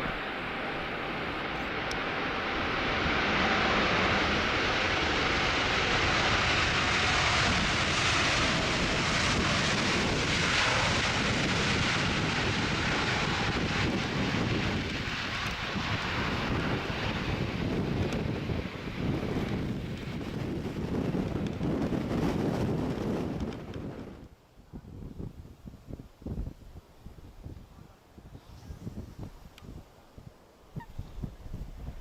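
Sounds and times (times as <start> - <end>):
jet engine noise: 0.0 - 32.0.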